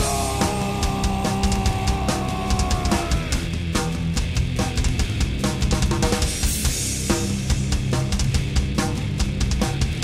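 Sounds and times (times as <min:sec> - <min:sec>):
heavy metal music: 0:00.0 - 0:10.0.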